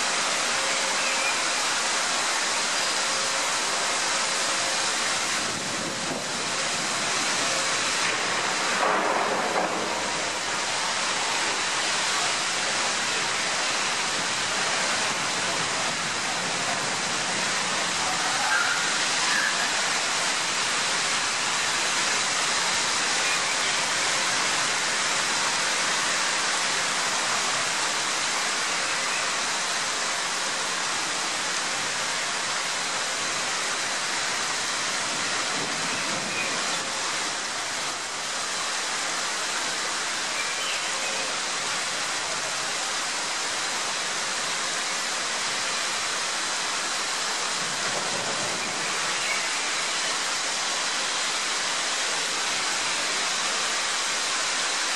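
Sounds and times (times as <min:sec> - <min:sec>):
heavy rain on wet street: 0:00.0 - 0:54.9.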